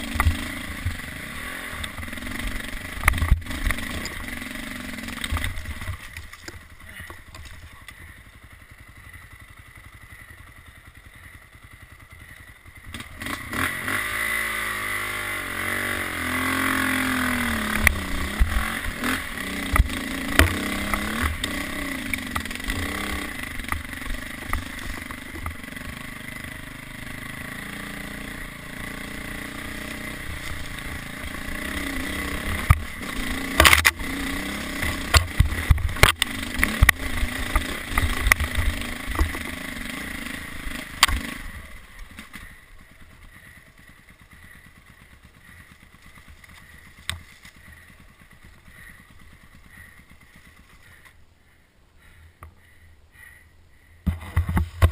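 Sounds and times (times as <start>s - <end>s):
dirt bike engine revving: 0.0s - 51.1s.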